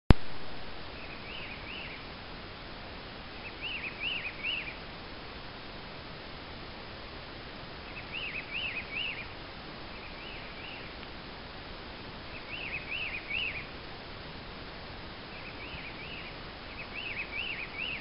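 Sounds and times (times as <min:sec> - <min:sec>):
steady background hiss: 0:00.1 - 0:18.0
songbird singing: 0:00.4 - 0:18.0.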